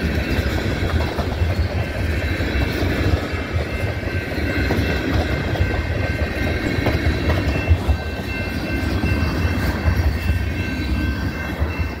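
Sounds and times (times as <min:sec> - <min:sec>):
steady high tones: 0:00.0 - 0:12.0
train wheels rumbling on rail: 0:00.0 - 0:12.0
wheels clacking: 0:00.0 - 0:12.0.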